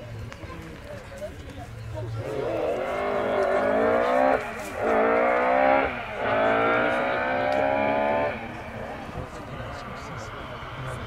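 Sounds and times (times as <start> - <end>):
rally car engine at full throttle: 2.0 - 11.0.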